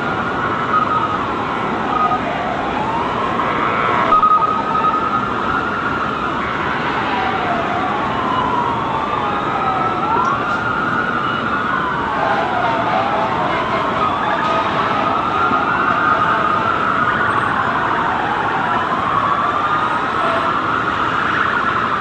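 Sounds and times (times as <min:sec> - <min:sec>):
sirens wailing: 0:00.0 - 0:22.0
street noise: 0:00.0 - 0:22.0.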